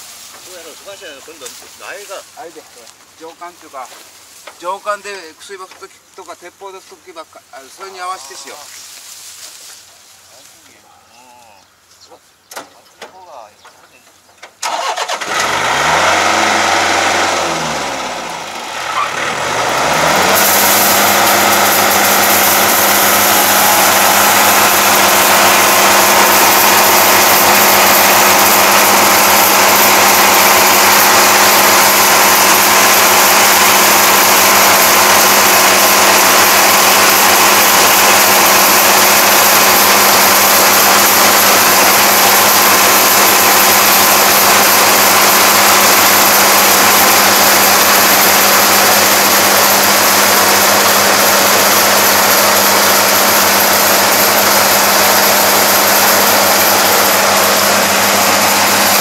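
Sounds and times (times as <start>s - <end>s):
combine harvester diesel engine: 0.0s - 8.7s, 12.1s - 59.0s.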